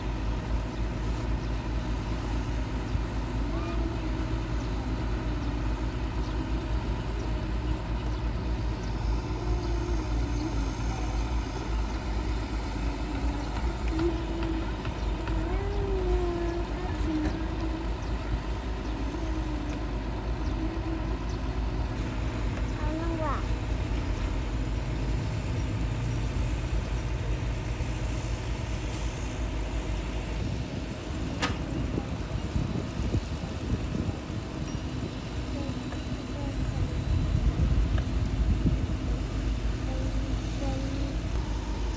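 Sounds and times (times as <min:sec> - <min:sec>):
diesel engine rumbling: 0:00.0 - 0:41.9.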